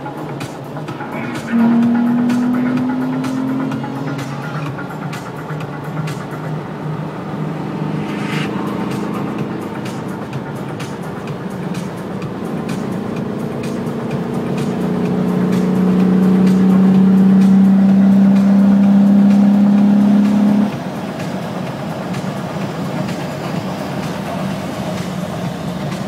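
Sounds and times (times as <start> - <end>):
car engine droning under load: 0.0 - 26.0.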